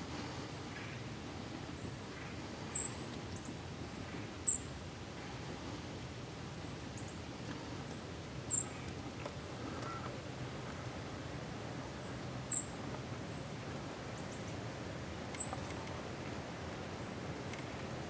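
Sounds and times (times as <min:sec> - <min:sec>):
faint background hiss: 0:00.0 - 0:18.0.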